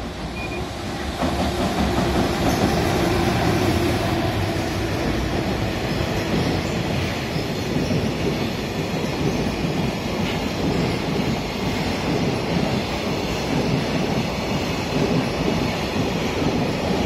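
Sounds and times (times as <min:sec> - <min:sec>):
train wheels clattering on rail: 0:00.0 - 0:17.0.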